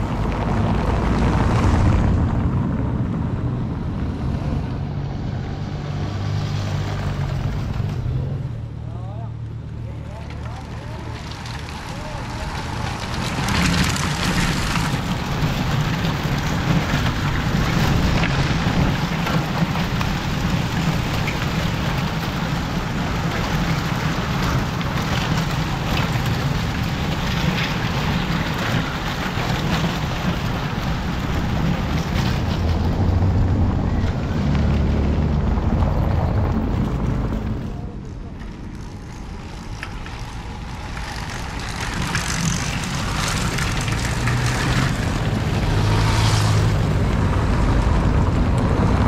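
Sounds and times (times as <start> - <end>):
bicycles clattering over cobblestones: 0.0 - 1.9, 6.8 - 49.0
car engine rumble: 0.0 - 49.0.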